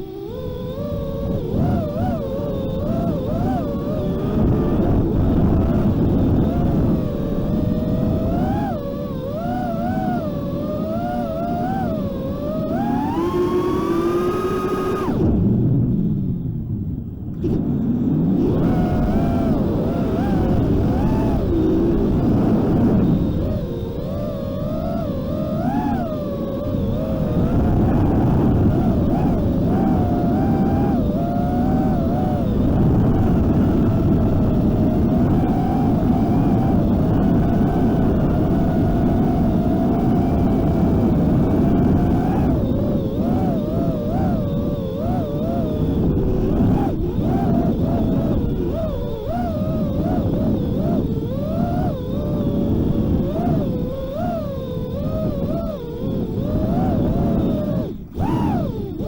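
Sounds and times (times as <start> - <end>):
heavy wind rumble: 0.0 - 59.0
quadcopter motors whining: 0.0 - 59.0.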